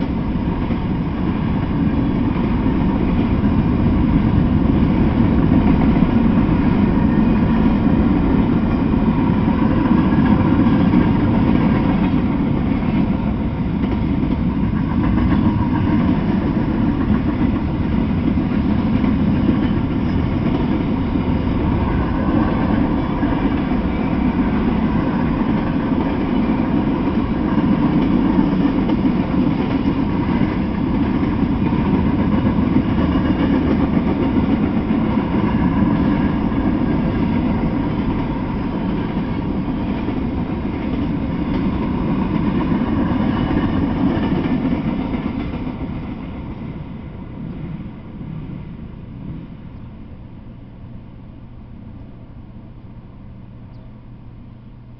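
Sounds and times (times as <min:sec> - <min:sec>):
steel wheels clattering on rails: 0:00.0 - 0:49.9
freight train rumbling past: 0:00.0 - 0:54.9.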